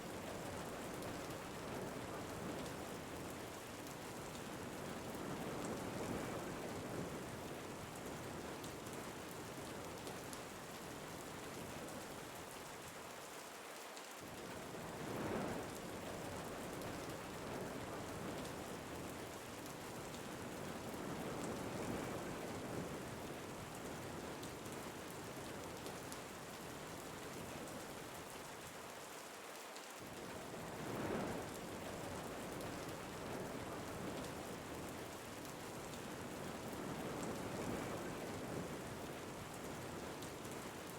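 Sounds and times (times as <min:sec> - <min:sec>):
steady rain hiss: 0:00.0 - 0:40.9
wind: 0:00.0 - 0:40.9.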